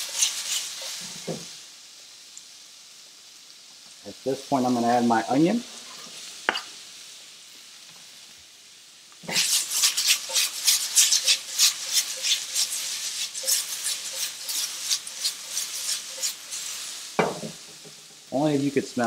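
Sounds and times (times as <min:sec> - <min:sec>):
shrimp and onion sizzling in oil: 0:00.0 - 0:19.0.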